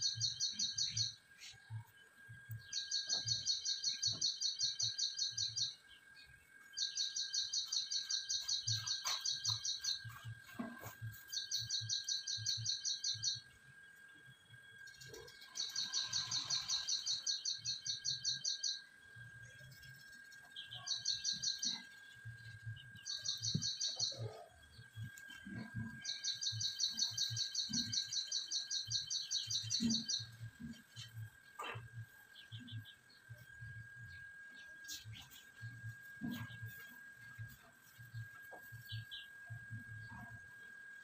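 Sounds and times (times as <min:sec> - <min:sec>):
faint high whine: 0:00.0 - 0:41.0.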